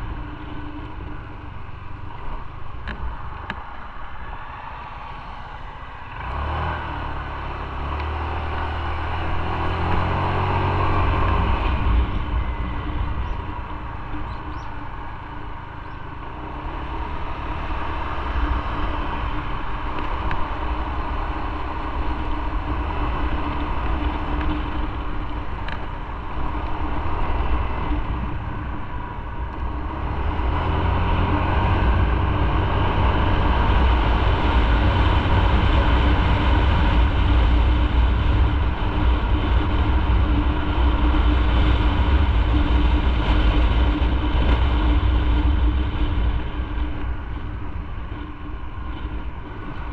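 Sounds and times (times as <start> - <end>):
motorcycle engine drone: 0.0 - 49.9.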